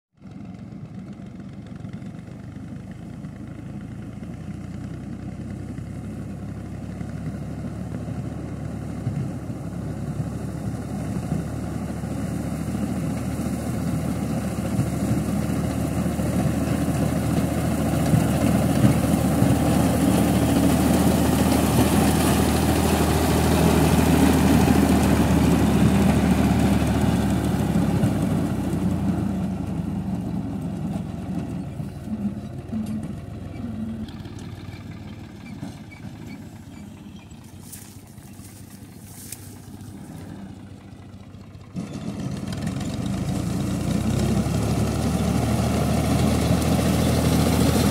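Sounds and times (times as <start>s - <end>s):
tractor diesel engine running: 0.2s - 47.9s.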